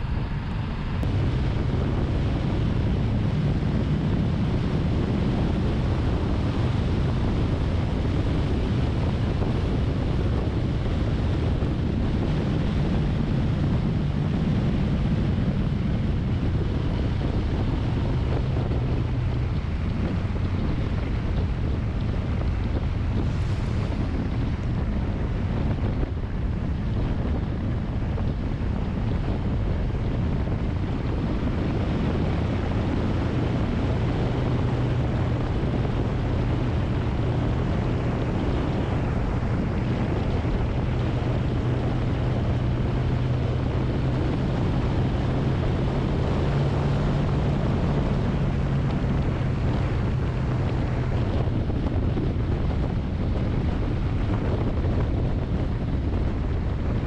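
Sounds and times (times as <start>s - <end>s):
low engine hum: 0.0s - 57.0s
wind rushing over microphone: 0.0s - 57.0s.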